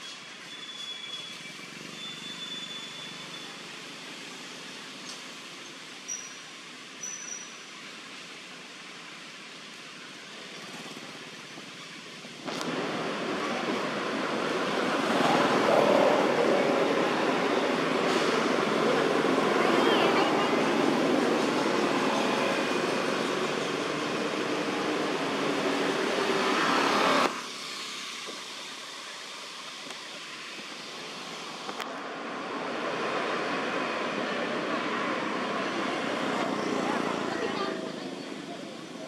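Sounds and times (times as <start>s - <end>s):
rushing outdoor background noise: 0.0s - 39.0s.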